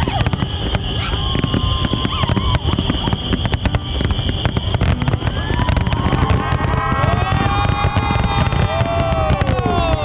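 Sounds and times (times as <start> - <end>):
firework whistles rising in pitch: 0.0 - 10.0
fireworks crackling and booming: 0.0 - 10.0.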